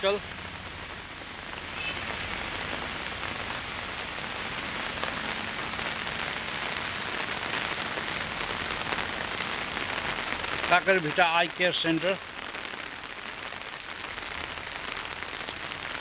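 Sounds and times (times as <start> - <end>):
rain pattering on umbrella: 0.0 - 16.0.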